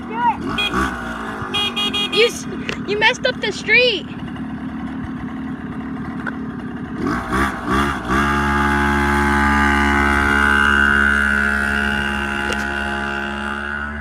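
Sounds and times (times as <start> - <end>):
mini bike engine revving: 0.0 - 14.0.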